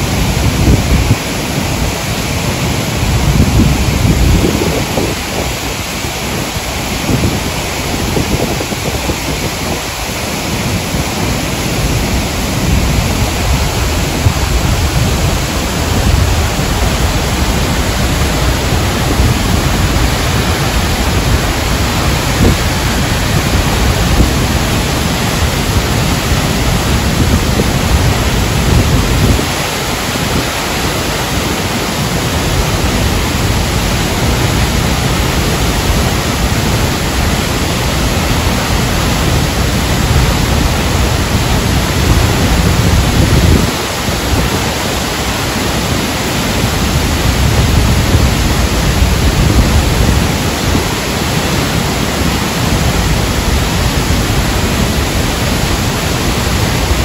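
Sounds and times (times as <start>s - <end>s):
waterfall crashing into pool: 0.0s - 57.0s.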